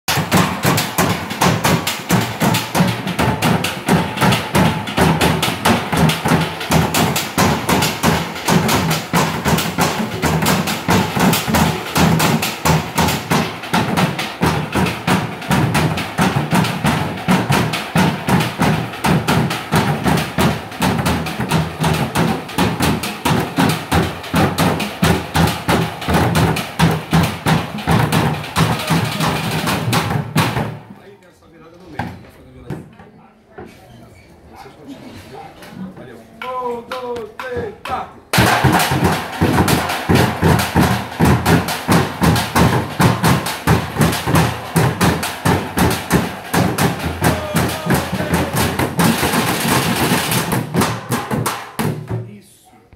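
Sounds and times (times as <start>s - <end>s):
drumming on plastic jugs: 0.1s - 31.0s, 35.8s - 52.4s.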